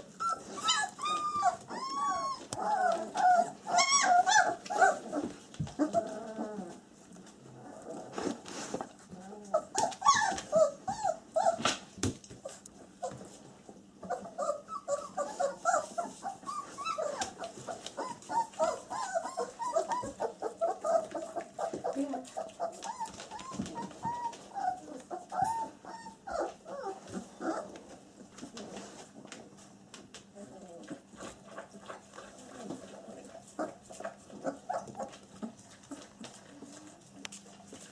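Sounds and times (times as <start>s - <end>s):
puppies whimpering and squeaking: 0.0s - 8.4s, 9.0s - 28.8s, 32.0s - 37.9s.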